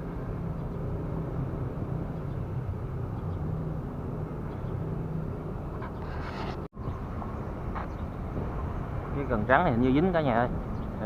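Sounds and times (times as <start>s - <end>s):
distant engines rumbling: 0.0s - 11.0s.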